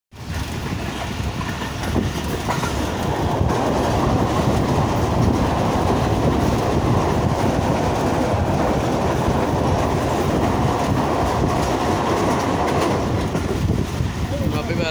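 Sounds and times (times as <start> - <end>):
train wheels rumbling on bridge: 0.1 - 14.9.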